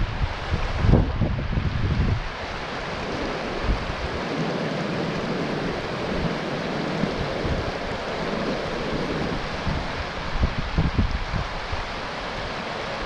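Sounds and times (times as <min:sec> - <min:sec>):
stream rushing over rocks: 0:00.0 - 0:13.0
wind buffeting the microphone: 0:00.0 - 0:13.0.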